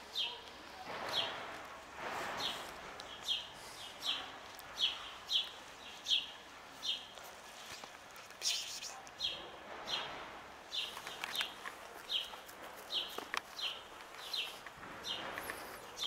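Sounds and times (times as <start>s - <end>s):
songbird chirping: 0.0s - 1.6s, 2.3s - 16.0s.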